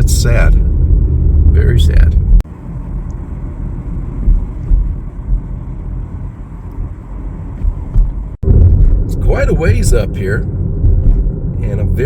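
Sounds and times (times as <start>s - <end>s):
car rumbling on dirt road: 0.0s - 12.0s.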